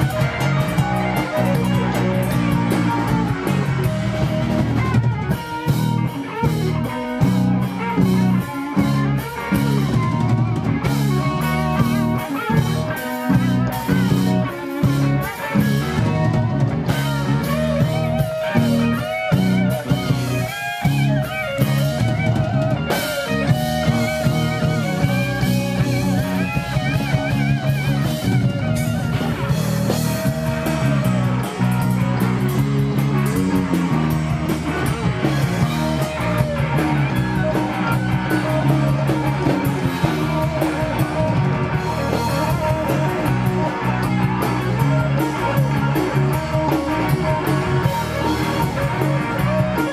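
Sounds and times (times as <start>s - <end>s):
bass guitar: 0.0s - 49.9s
drum kit: 0.0s - 49.9s
electric guitars: 0.0s - 49.9s.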